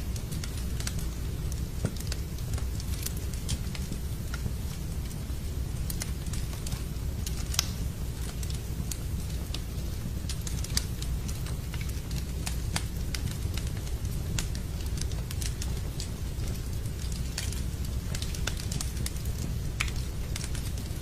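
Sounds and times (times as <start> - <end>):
rain: 0.0 - 21.0
wood fire crackling: 0.0 - 21.0.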